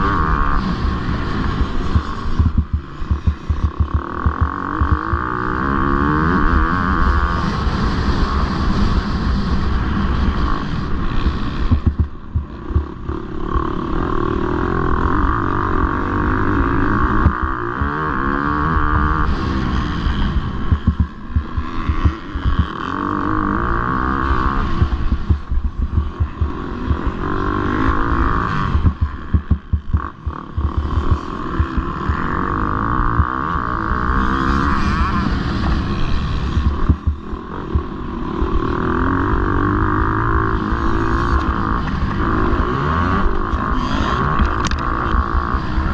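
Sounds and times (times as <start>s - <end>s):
motocross bike engine revving: 0.0s - 45.9s.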